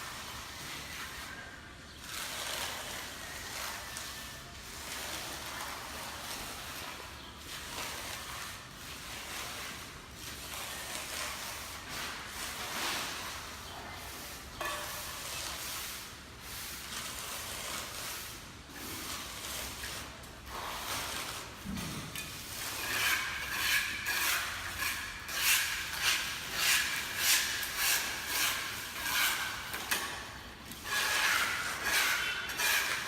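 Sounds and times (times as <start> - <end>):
tools scraping wet concrete: 0.0 - 33.0.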